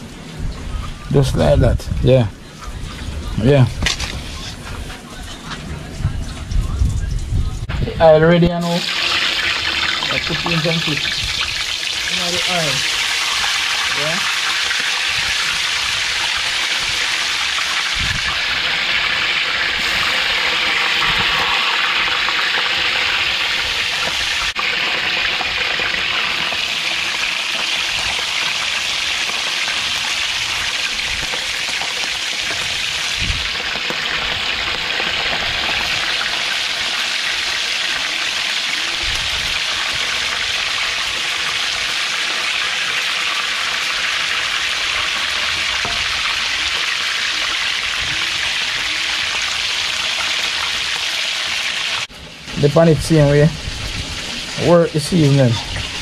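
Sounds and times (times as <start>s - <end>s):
fish sizzling in hot oil: 8.5s - 56.0s.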